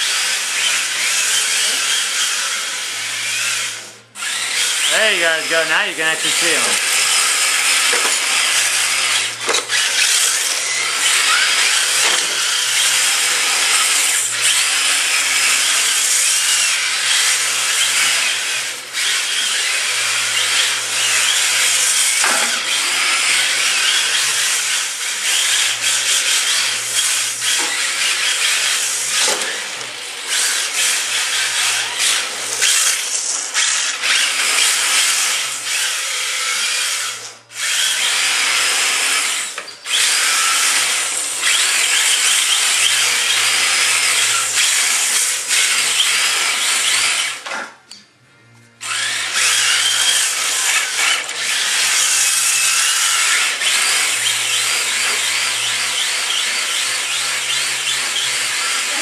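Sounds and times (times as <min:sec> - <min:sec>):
electric motors whining: 0:00.0 - 0:47.7, 0:48.3 - 0:59.0.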